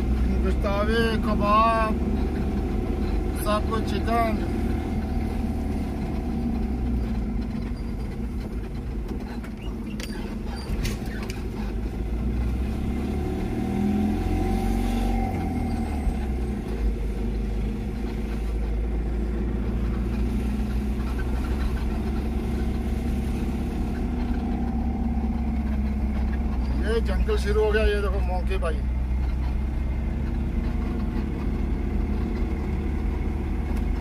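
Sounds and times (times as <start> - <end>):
tyre noise on paved road: 0.0 - 34.0
van engine running: 0.0 - 34.0.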